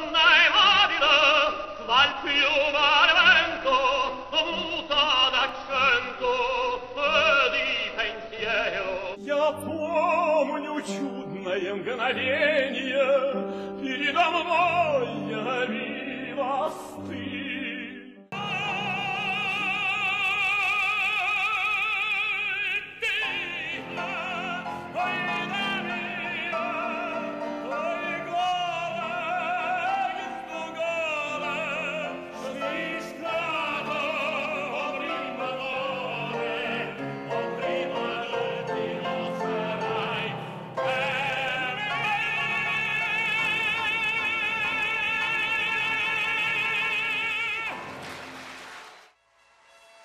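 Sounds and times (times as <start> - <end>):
operatic tenor singing: 0.0 - 48.1
musical accompaniment: 0.0 - 50.0.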